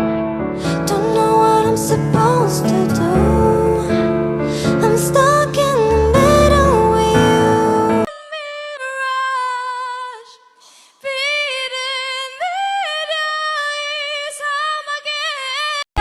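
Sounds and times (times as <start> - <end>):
woman singing a cappella: 0.7 - 15.9.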